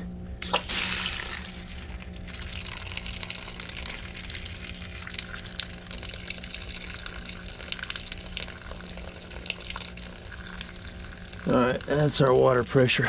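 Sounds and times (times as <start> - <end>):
low hum: 0.0 - 13.0
water trickling from hose spigot: 0.6 - 12.6.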